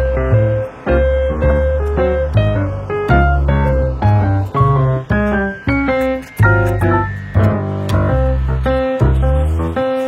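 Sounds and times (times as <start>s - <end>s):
plucked guitar: 0.0s - 9.7s
sliding bass line: 0.0s - 10.0s.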